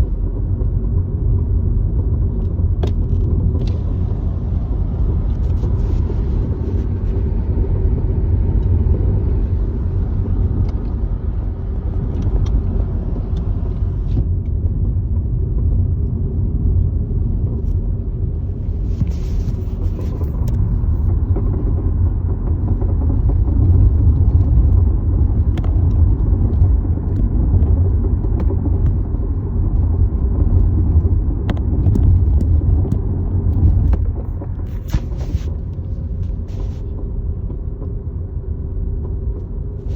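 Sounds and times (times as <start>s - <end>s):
car rumbling on road: 0.0s - 39.9s.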